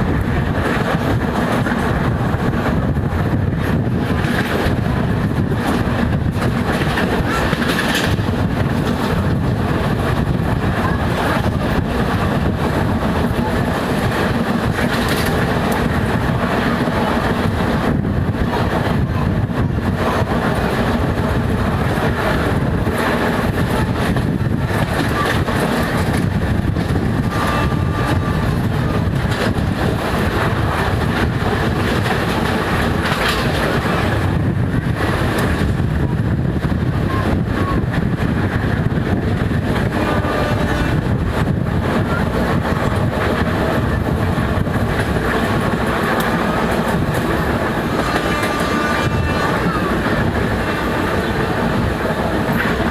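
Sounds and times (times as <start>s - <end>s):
train wheels clattering on rails: 0.0s - 52.9s.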